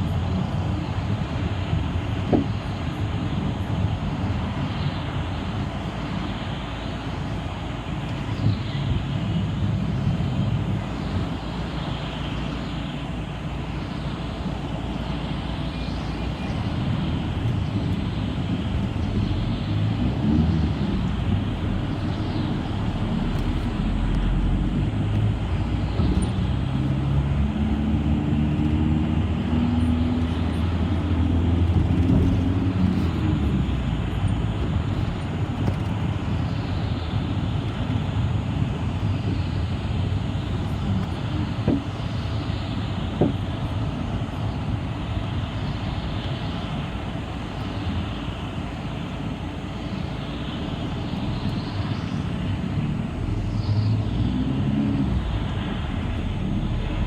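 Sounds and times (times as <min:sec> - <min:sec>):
bus engine: 0:00.0 - 0:57.0
road noise: 0:00.0 - 0:57.0.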